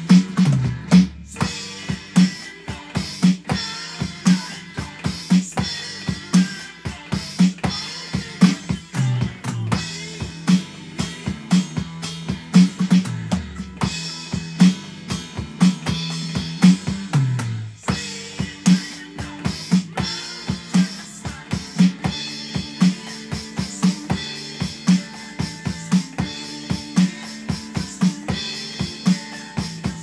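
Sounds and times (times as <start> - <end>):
bass guitar: 0.0 - 30.0
electronic drum kit: 0.0 - 30.0
guitar: 0.0 - 30.0.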